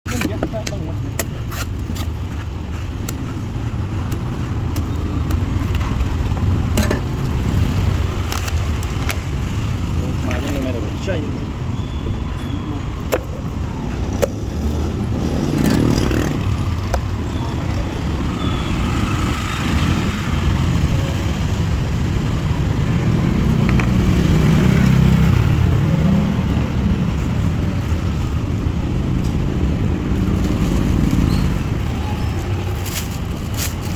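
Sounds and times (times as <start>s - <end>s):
traffic rumble: 0.0s - 33.9s.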